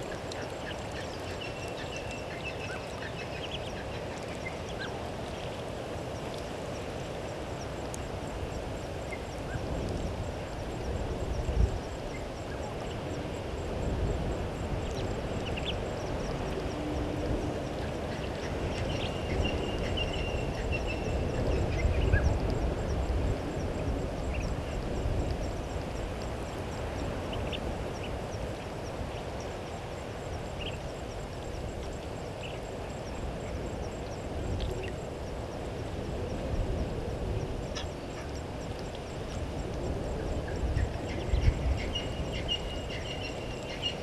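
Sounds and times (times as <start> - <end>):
wind rumble on microphone: 0.0 - 44.0.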